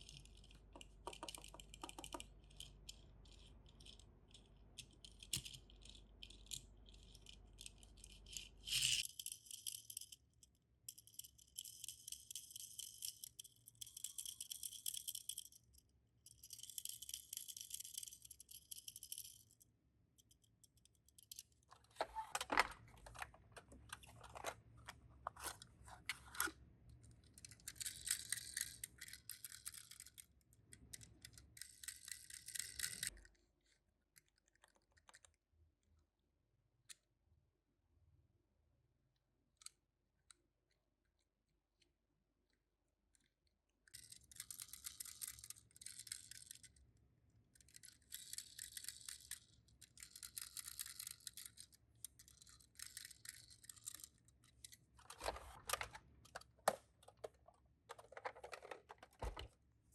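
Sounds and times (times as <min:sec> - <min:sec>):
toy cars rattling and clicking: 0:00.0 - 0:35.4, 0:43.1 - 0:46.9, 0:47.5 - 0:59.5.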